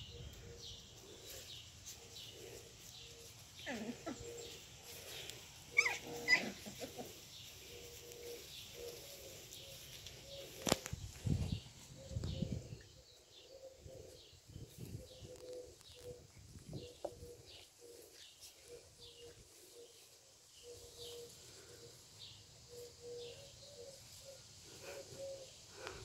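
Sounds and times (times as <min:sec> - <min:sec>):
garden birds chirping: 0:00.0 - 0:26.0
dove cooing: 0:02.0 - 0:20.0, 0:20.6 - 0:21.9, 0:22.7 - 0:26.0.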